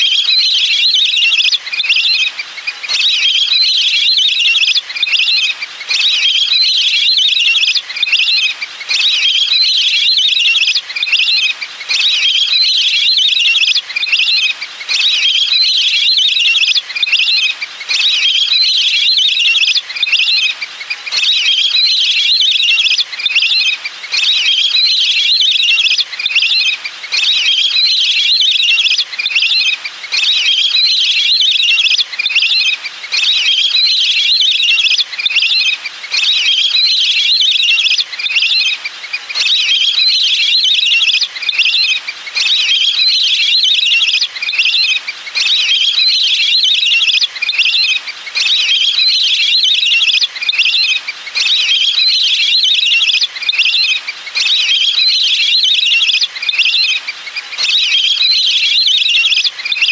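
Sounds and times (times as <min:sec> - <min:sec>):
ducks whistling calls: 0:00.0 - 0:59.9.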